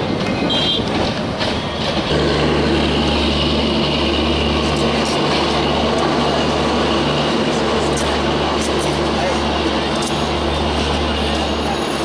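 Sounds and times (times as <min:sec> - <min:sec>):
diesel locomotive engine droning: 0:00.0 - 0:12.0.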